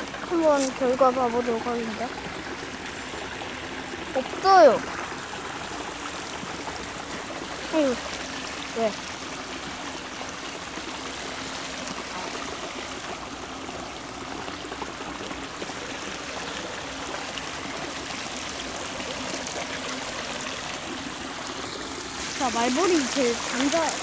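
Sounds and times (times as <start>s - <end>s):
water running and trickling: 0.0s - 24.0s.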